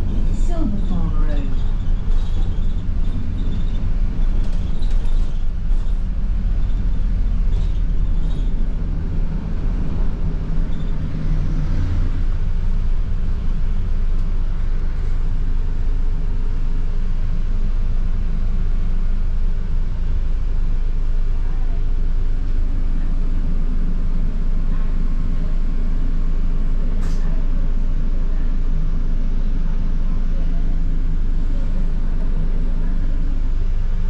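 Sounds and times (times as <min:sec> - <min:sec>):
bus engine rumble: 0:00.0 - 0:34.0.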